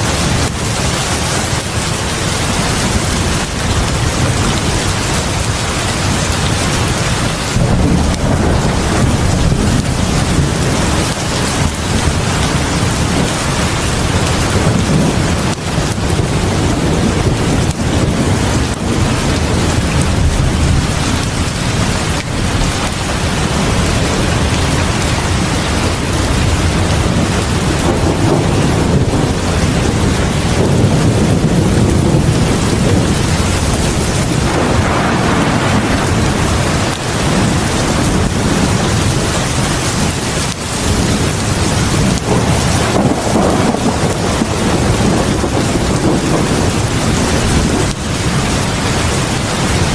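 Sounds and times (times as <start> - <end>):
deep rumble: 0.0 - 49.9
heavy rain pouring: 0.0 - 49.9.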